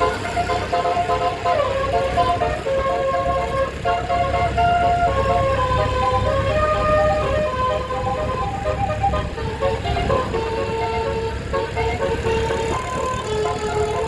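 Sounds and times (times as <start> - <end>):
bus engine rumble: 0.0 - 14.0
musical air horn playing a tune: 0.0 - 14.0.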